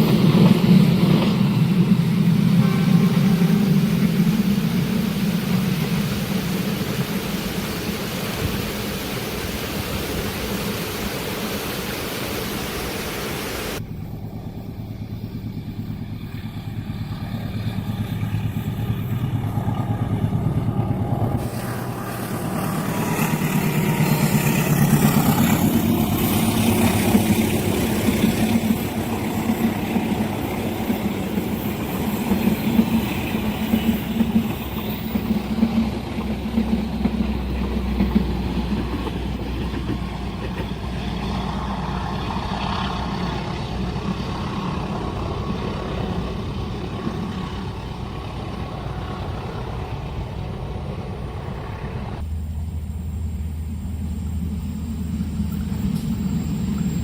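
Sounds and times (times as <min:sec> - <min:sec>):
train passing with wheel clatter: 0:00.0 - 0:57.0.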